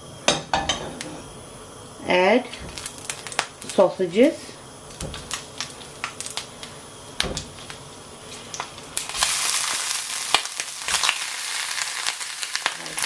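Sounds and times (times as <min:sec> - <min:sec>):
sausages sizzling in oil: 0:00.0 - 0:13.0.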